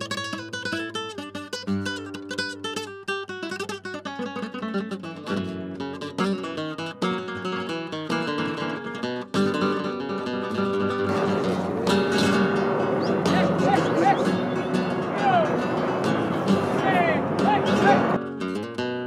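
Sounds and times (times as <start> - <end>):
flamenco acoustic guitar: 0.0 - 19.0.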